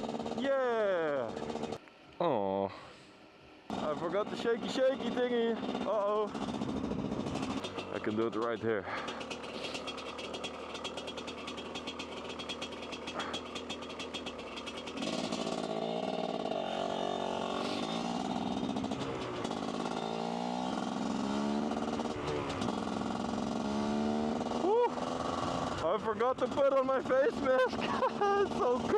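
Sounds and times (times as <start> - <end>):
dirt bike engine: 0.0 - 1.8, 3.7 - 28.9.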